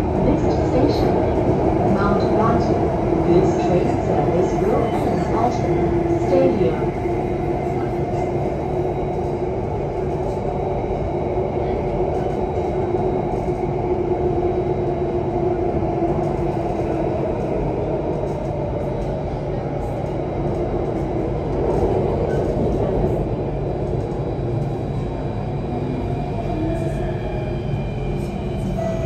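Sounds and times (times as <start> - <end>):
metro train wheels rumbling on rail: 0.0 - 29.0.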